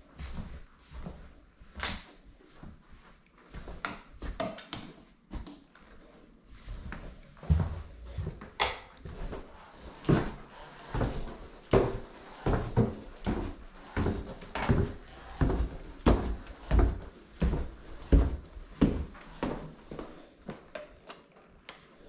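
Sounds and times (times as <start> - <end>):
footsteps on hard floor: 0.1 - 1.8, 2.4 - 20.3.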